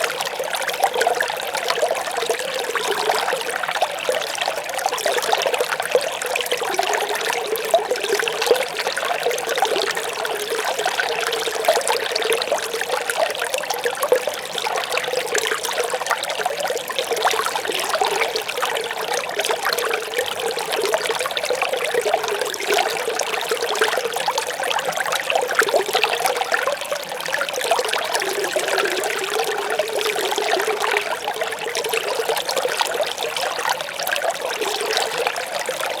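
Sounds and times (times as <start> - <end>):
small stream babbling: 0.0 - 36.0.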